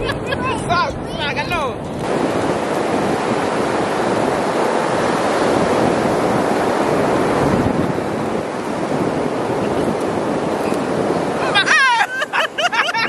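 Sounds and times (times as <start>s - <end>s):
waves breaking on a beach: 0.0s - 13.0s
wind buffeting the microphone: 0.0s - 13.0s.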